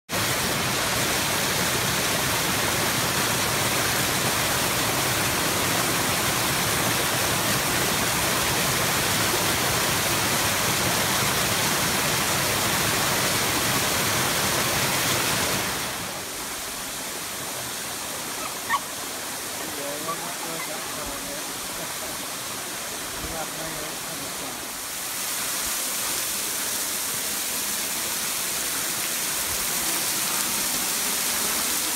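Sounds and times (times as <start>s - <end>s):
water rushing over rocks: 0.1s - 31.9s.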